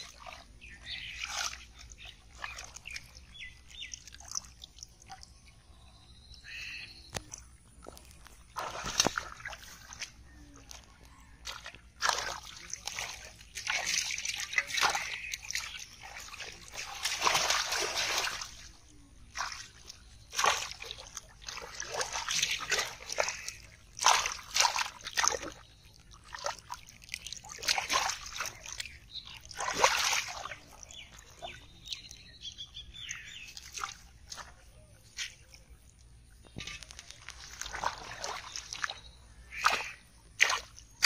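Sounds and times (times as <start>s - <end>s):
muddy water splashing: 0.0s - 41.0s.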